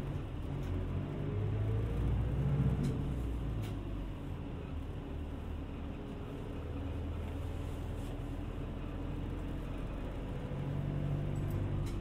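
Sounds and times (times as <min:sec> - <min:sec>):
bus engine hum: 0:00.0 - 0:12.0
road noise: 0:00.0 - 0:12.0.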